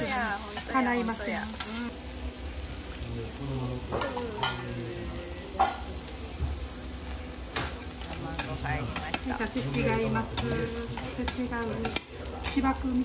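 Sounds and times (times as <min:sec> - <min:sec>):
noodles sizzling on a griddle: 0:00.0 - 0:13.0.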